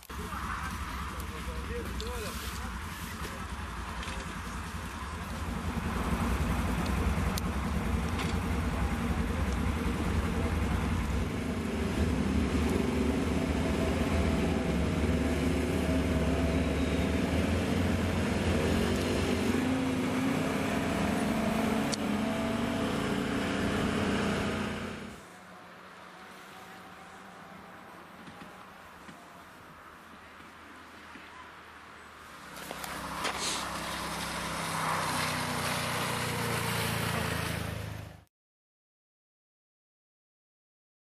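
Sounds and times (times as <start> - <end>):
utility vehicle engines running: 0.0 - 38.2.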